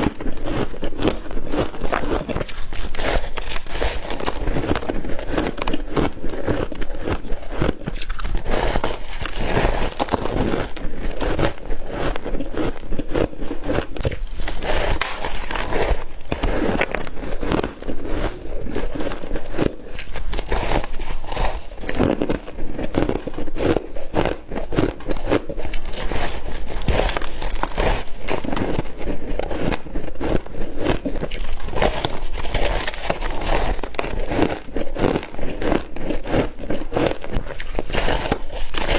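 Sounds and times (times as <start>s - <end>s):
frost being chewed: 0.0s - 38.9s.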